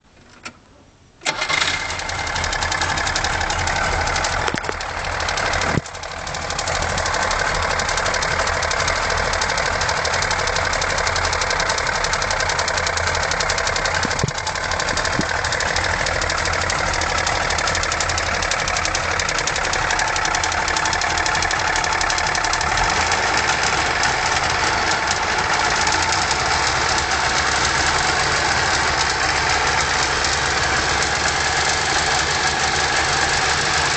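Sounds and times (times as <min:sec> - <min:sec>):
engine cylinder rattle: 0:01.2 - 0:33.9
two-stroke engine idling: 0:01.3 - 0:33.9.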